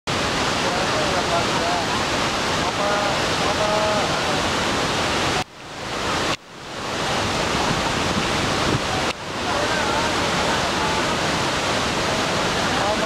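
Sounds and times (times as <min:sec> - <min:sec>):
waterfall rushing over rocks: 0:00.1 - 0:13.0.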